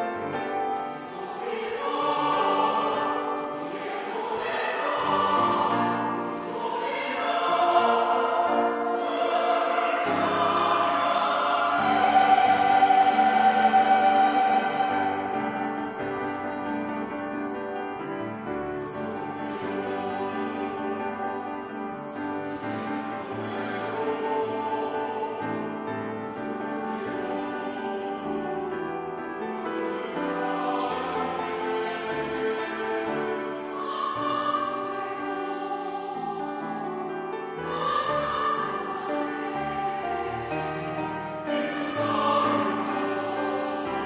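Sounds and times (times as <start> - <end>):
church choir singing a hymn: 0.0 - 44.0.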